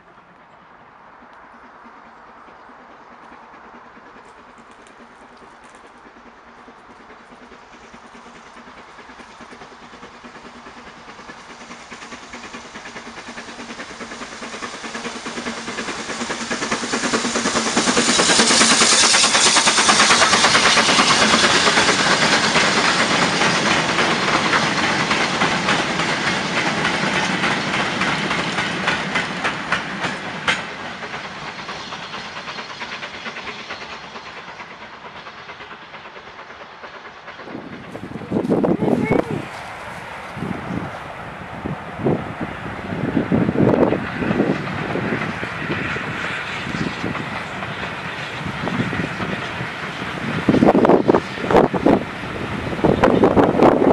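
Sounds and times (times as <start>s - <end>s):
steam train passing: 0.0s - 53.9s.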